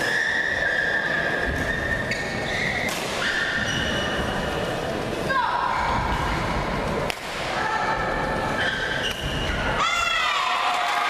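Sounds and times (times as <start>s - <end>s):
crowded sports hall noise: 0.0s - 11.0s.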